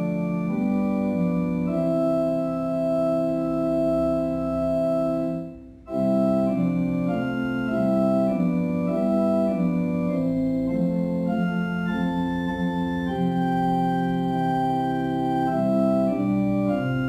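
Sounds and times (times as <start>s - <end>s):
organ playing a hymn: 0.0s - 17.0s.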